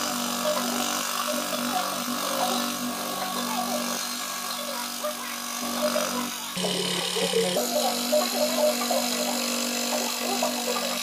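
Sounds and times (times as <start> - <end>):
scroll saw cutting board: 0.0 - 11.0.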